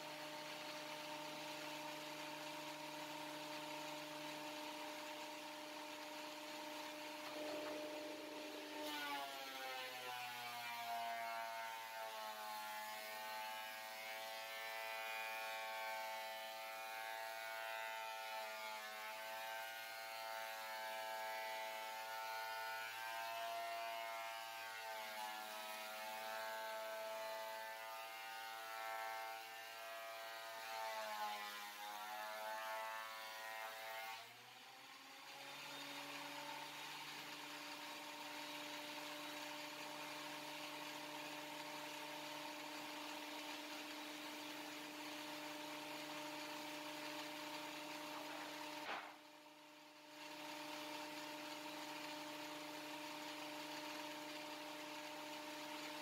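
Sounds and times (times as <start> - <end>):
thickness planer cutting a board: 0.0 - 56.0.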